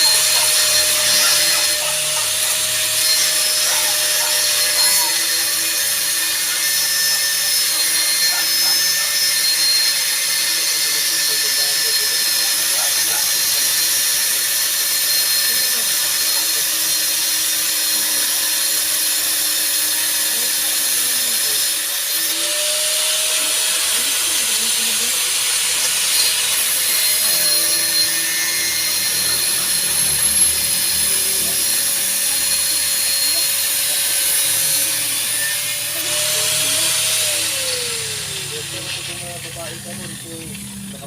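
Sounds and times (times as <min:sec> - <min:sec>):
power tool high-pitched hiss: 0:00.0 - 0:40.5.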